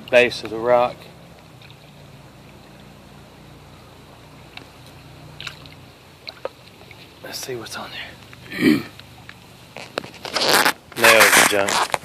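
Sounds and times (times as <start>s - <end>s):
creek water running: 0.0s - 9.8s.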